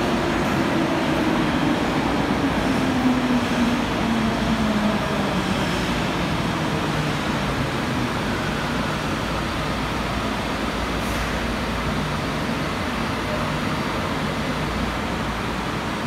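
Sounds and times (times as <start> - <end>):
subway train braking rumble: 0.0 - 16.0.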